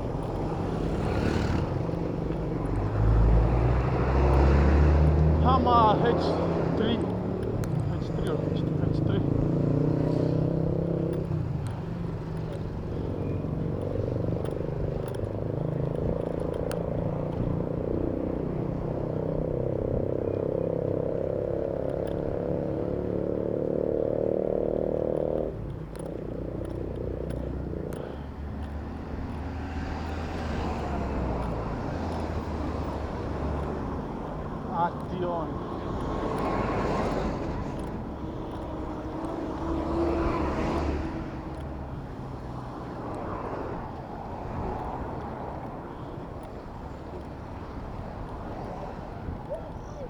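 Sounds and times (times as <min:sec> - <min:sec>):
low rumble of traffic: 0:00.0 - 0:50.0
vehicle engine humming nearby: 0:00.0 - 0:50.0.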